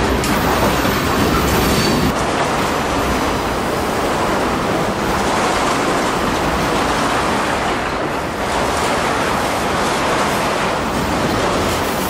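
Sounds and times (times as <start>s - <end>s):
freight train wheels on rail: 0.0s - 12.0s.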